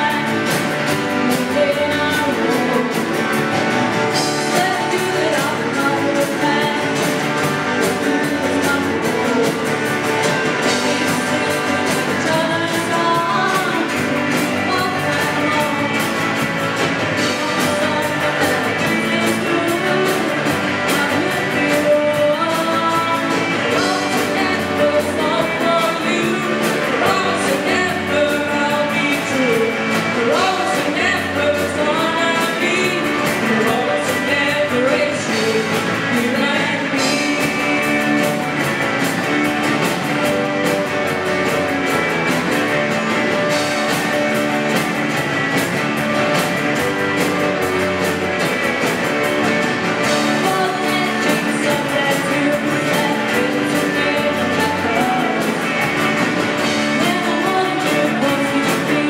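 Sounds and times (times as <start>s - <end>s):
rock song with singing: 0.0s - 59.0s.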